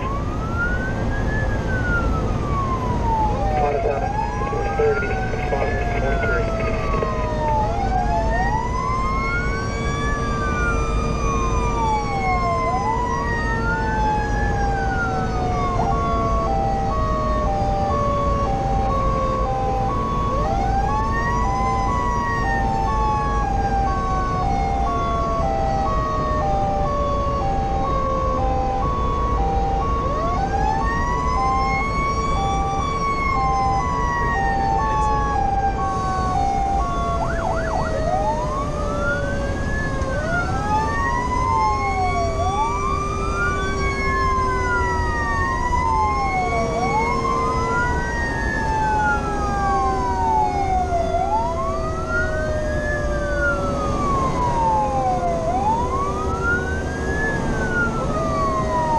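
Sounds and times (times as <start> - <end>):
electronic siren wailing: 0.0 - 58.9
engine and road rumble: 0.0 - 58.9.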